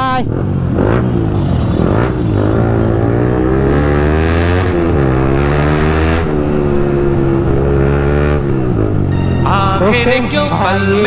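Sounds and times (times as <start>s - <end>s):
motorcycle engine accelerating: 0.2s - 11.0s.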